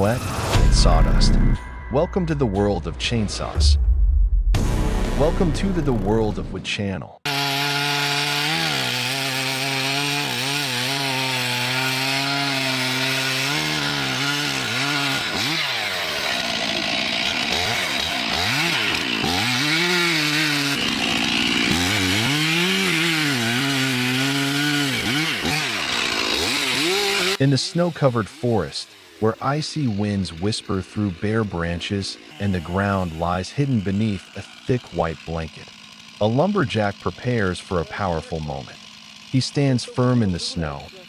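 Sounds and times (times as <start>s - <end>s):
chainsaw cutting wood: 0.0s - 1.6s, 4.6s - 6.6s, 7.3s - 41.0s.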